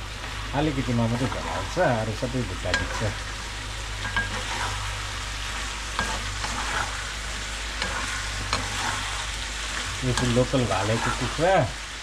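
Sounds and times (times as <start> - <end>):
chicken sizzling in a pan: 0.0 - 12.0
steady low hum: 0.0 - 12.0.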